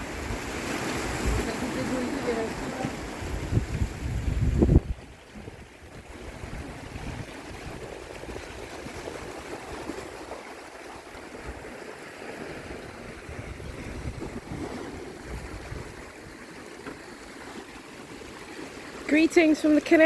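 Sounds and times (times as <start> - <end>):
wind buffeting microphone: 0.0 - 16.7
surf washing on shore: 0.0 - 20.0.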